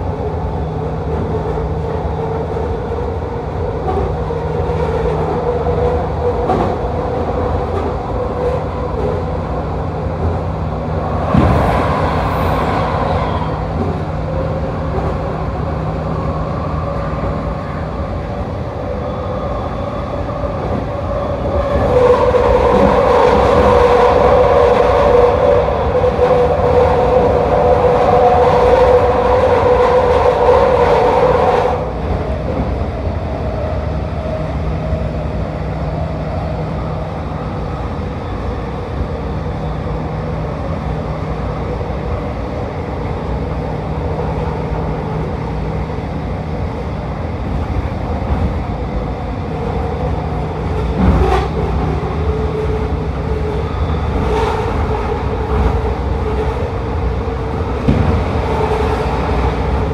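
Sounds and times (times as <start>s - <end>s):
train rumble and whine: 0.0s - 59.9s.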